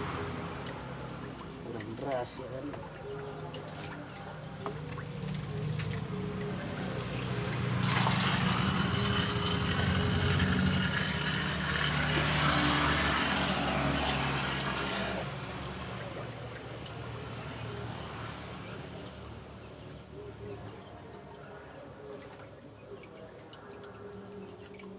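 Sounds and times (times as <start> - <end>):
water pump humming: 0.0 - 24.9
water splashing into pond: 0.0 - 24.9.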